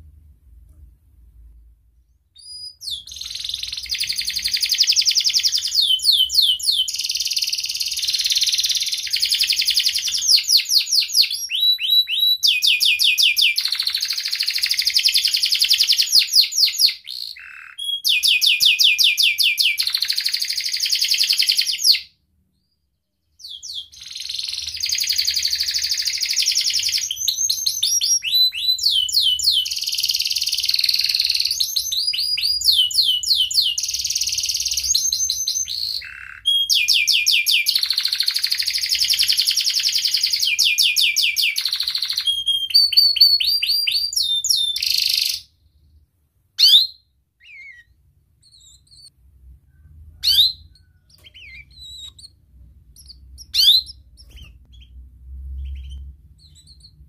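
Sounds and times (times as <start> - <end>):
canary singing trills: 2.1 - 46.0, 46.6 - 49.2, 49.8 - 57.0.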